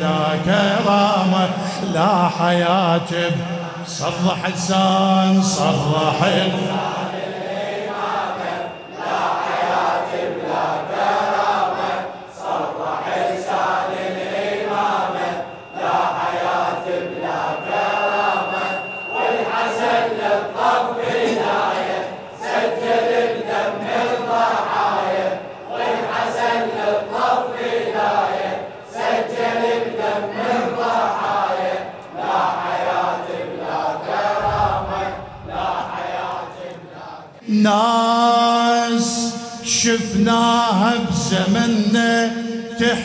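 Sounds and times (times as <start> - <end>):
men chanting in unison: 0.0 - 43.0.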